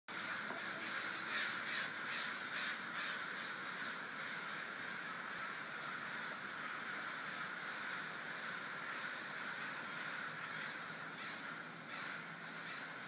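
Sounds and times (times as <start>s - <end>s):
crows cawing: 0.1s - 13.0s.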